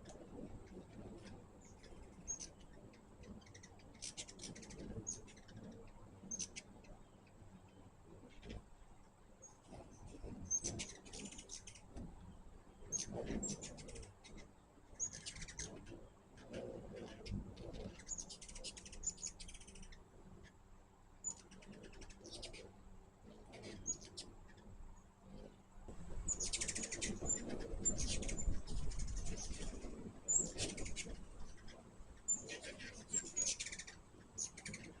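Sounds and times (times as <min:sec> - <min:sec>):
hummingbirds chipping: 0:00.0 - 0:35.0.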